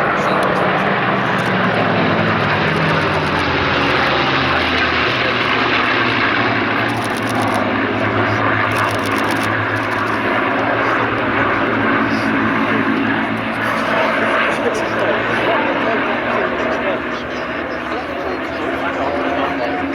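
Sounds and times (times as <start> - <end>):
propeller planes diving past: 0.0 - 19.9.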